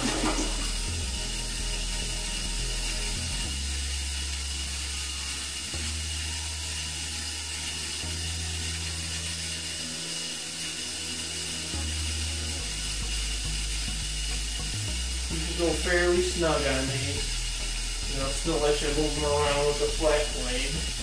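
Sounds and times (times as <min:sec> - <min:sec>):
low hum: 0:00.0 - 0:21.0
toilet fill valve hissing: 0:00.0 - 0:21.0.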